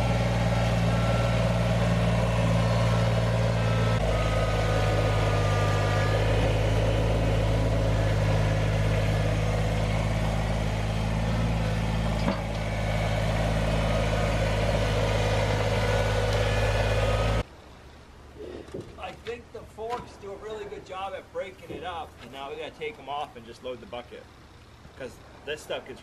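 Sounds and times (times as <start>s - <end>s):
tractor engine running: 0.0s - 25.6s.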